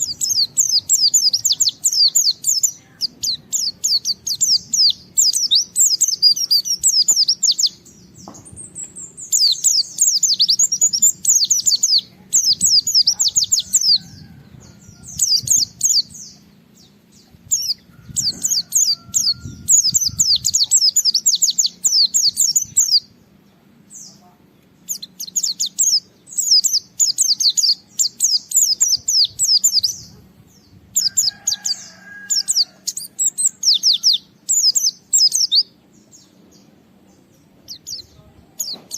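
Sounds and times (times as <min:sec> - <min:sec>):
bird singing high-pitched chatter: 0:00.0 - 0:38.9.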